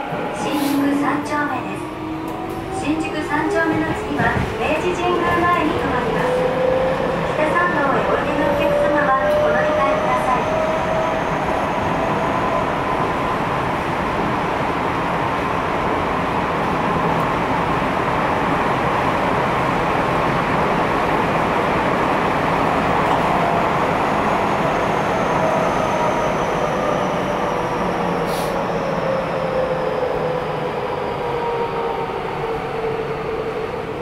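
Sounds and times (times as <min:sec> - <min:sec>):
subway train wheels rumbling: 0:00.0 - 0:34.0.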